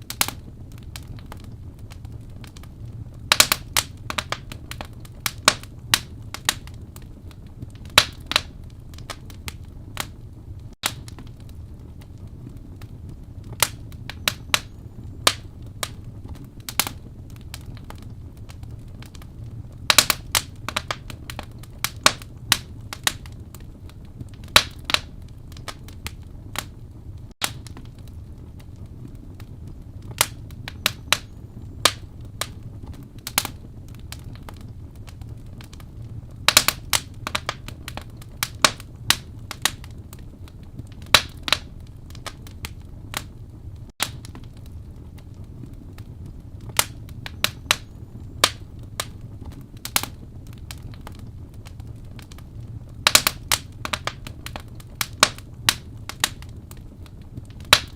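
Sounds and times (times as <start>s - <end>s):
low rumble of flames: 0.0s - 57.9s
wood fire crackling and popping: 0.0s - 57.9s.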